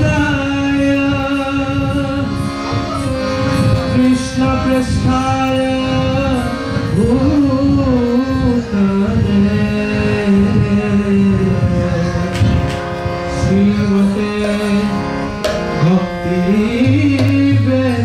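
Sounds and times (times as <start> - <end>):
drum accompaniment: 0.0 - 18.0.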